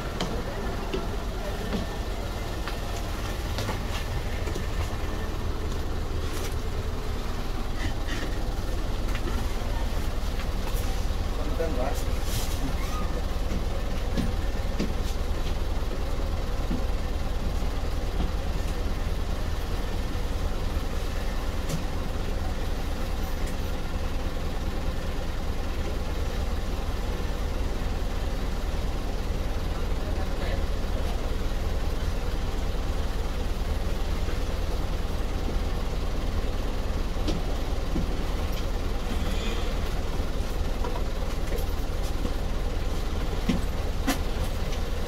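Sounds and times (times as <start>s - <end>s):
bus engine and road rumble: 0.0s - 45.0s.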